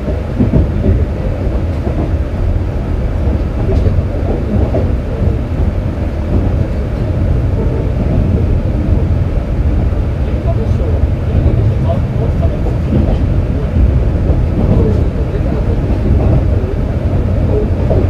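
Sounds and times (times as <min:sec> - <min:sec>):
wheels rumbling on track: 0:00.0 - 0:18.0.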